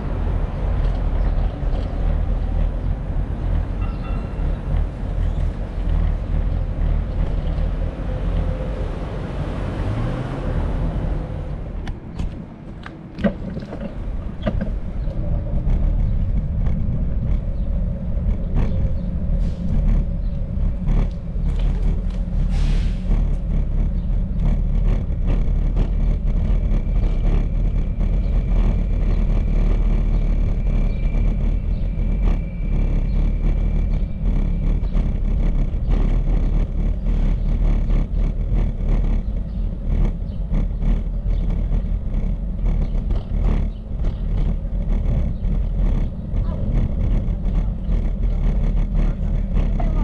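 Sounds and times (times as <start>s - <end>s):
bicycle rattles and clicks: 0.0s - 10.6s, 11.3s - 50.0s
tyres on pavement: 0.0s - 50.0s
wind on microphone: 0.0s - 50.0s.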